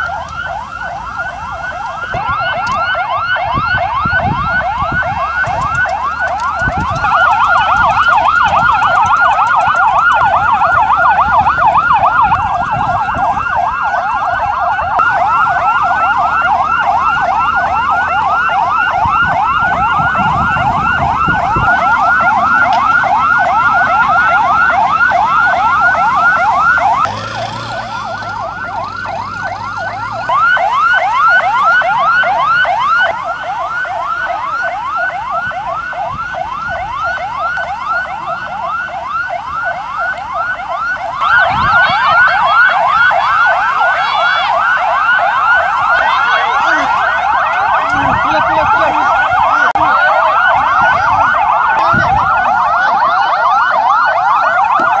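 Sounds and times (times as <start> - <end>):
sirens wailing in a fast yelp: 0.0 - 55.0.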